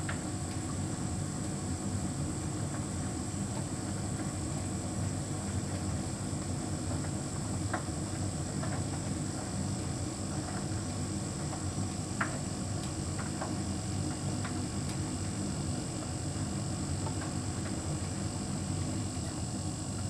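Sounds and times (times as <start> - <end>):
tumble dryer hum and rumble: 0.0 - 20.0.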